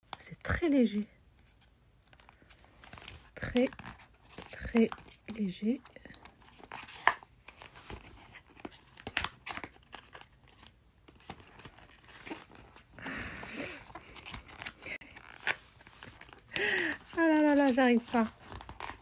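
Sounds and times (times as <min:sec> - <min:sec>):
cardboard rustling: 0:01.3 - 0:19.0.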